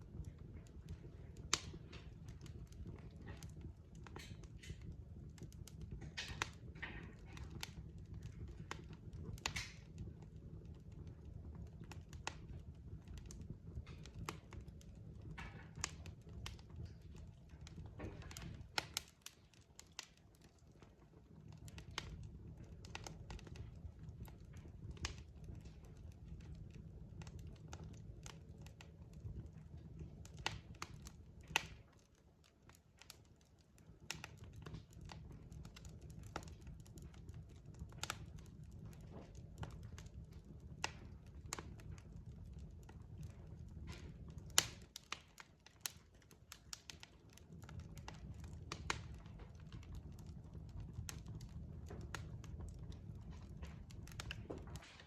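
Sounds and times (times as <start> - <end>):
low rumble of burning logs: 0.0 - 55.0
wood fire crackling and popping: 0.0 - 55.0.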